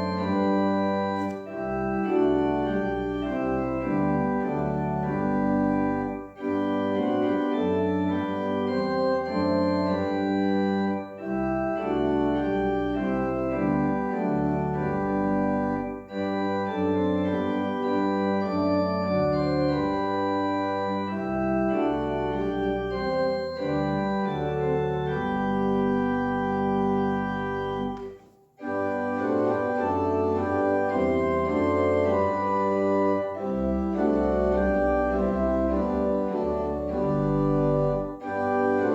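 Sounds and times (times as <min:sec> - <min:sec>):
organ playing held chords: 0:00.0 - 0:38.9.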